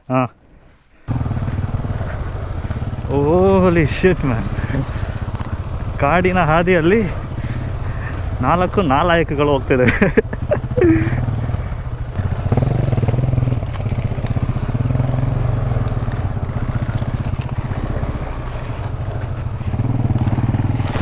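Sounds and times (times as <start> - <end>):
motorcycle engine revving: 1.1 - 21.0.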